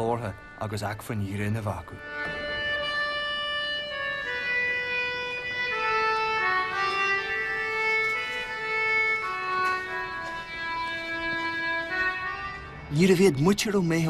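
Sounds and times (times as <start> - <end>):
slow instrumental melody: 0.0 - 14.0.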